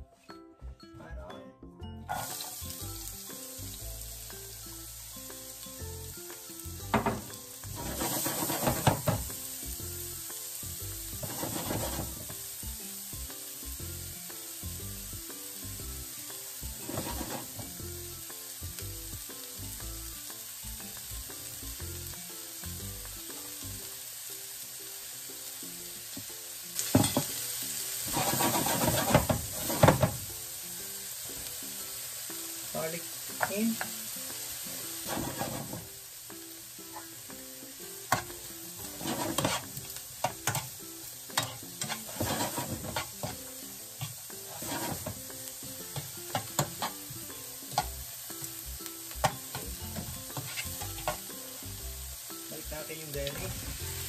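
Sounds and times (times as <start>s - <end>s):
onions sizzling in a frying pan: 2.1s - 54.0s
onions stirred in pan: 2.2s - 54.0s.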